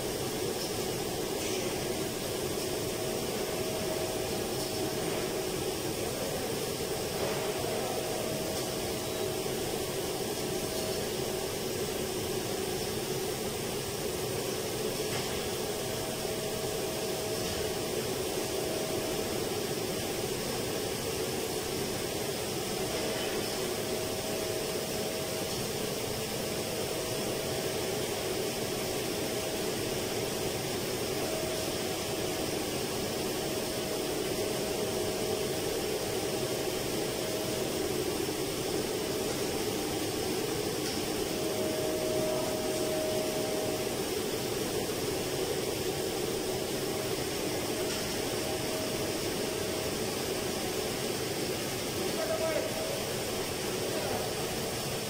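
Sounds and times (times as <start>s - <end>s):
air conditioner running: 0.0s - 55.0s.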